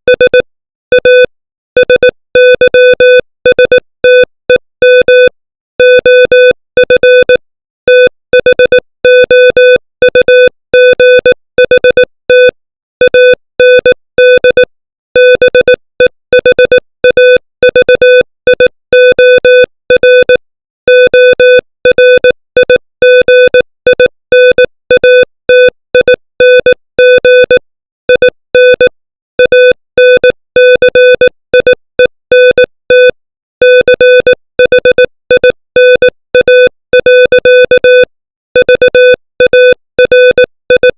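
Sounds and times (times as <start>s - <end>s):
morse code beeps: 0.1s - 40.9s.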